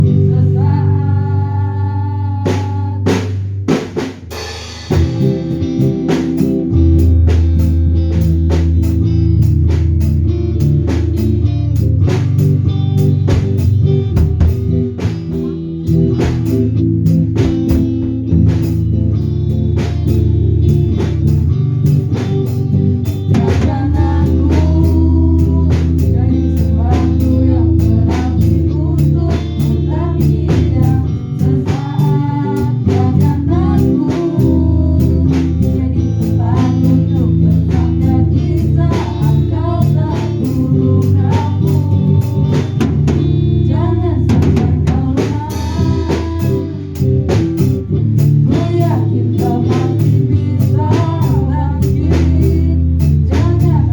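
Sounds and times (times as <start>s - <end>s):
band playing with drums bass guitar: 0.0s - 1.3s, 2.4s - 53.9s.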